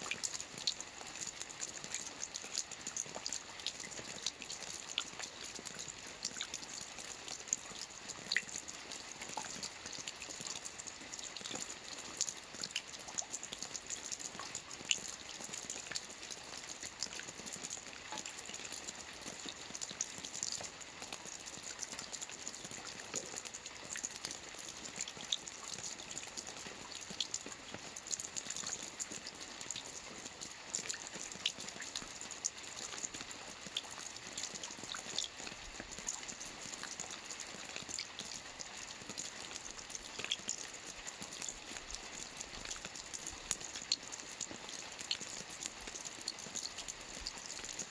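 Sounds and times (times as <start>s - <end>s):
soft rain on a roof: 0.0s - 47.9s.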